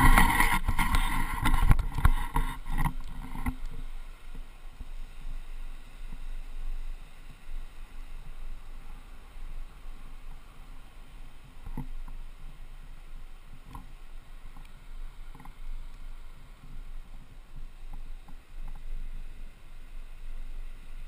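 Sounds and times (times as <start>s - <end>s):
rumbling noise on microphone: 0.0s - 21.0s.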